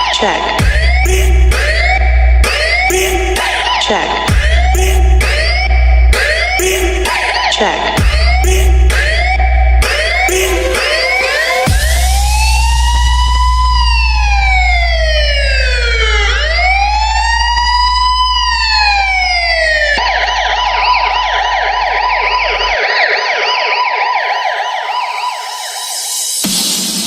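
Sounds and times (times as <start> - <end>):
deep bass tone: 0.0 - 22.8
siren wailing and yelping: 0.0 - 26.2.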